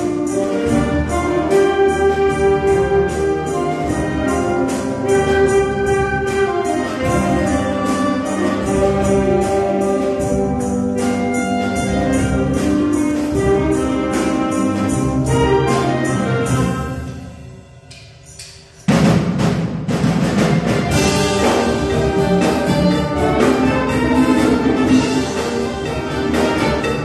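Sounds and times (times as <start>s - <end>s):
wind band playing chords: 0.0s - 18.0s, 18.9s - 27.0s
percussion beat: 0.0s - 27.0s.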